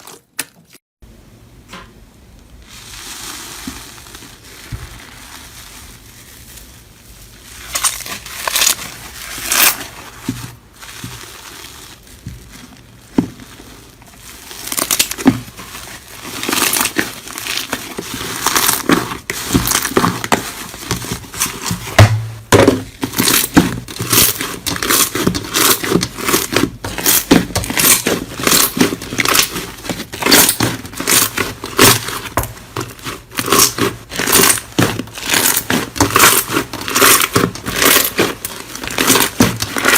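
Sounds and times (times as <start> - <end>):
slime crackling and popping: 2.6 - 39.9.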